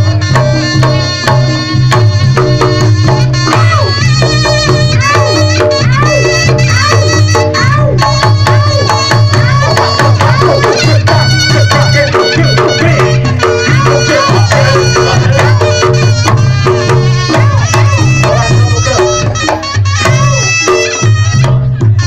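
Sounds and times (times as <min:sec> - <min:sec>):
rapid hand drumming: 0:00.0 - 0:22.0
wavering reed melody: 0:00.0 - 0:22.0.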